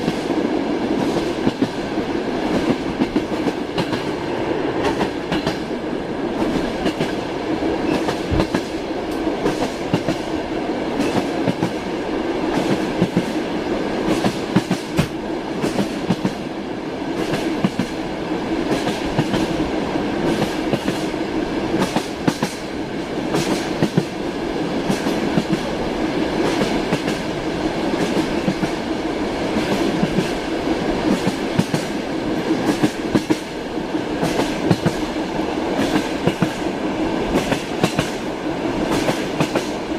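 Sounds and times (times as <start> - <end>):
train running gear rumble: 0.0 - 39.9.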